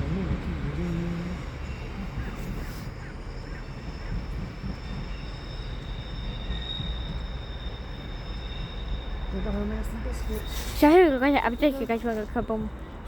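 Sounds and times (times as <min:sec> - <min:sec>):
train rumbling: 0:00.0 - 0:13.0
wheels squealing: 0:00.0 - 0:13.0.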